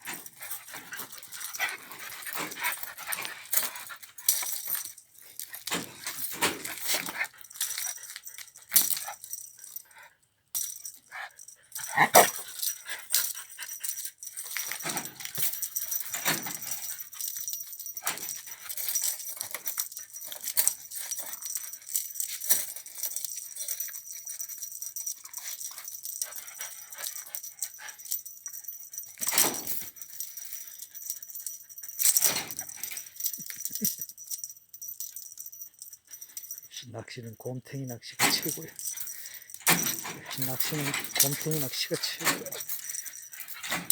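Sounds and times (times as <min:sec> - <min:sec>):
scuffling and rattling: 0:00.0 - 0:09.8, 0:10.6 - 0:36.6, 0:38.2 - 0:43.9.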